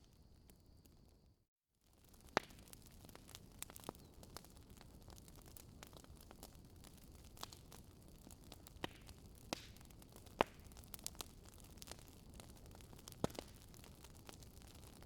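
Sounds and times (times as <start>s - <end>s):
campfire crackling and popping: 1.9s - 15.0s.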